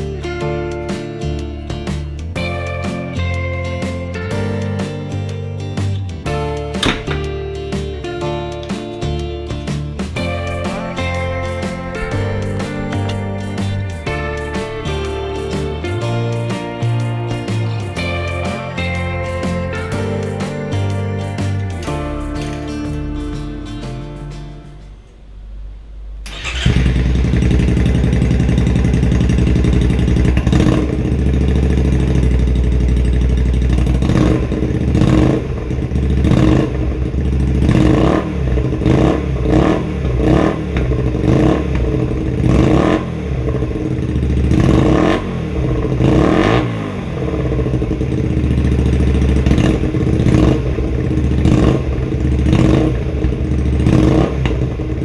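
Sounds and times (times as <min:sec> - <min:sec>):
motorcycle engine revving: 0:01.0 - 0:24.1, 0:26.2 - 0:55.0.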